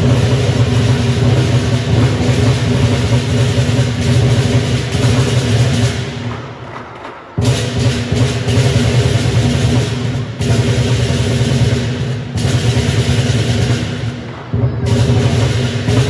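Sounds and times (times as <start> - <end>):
big drum beating: 0.0 - 16.0
cymbals clashing: 0.0 - 16.0.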